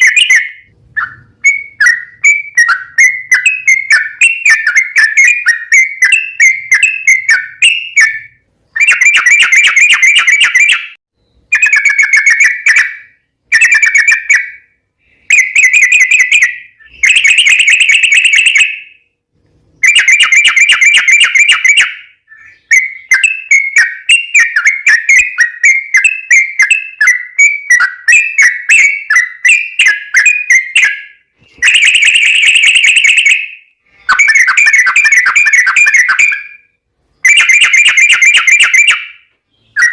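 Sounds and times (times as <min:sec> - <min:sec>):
bird warbling song: 0:00.0 - 0:19.0, 0:19.7 - 0:39.9.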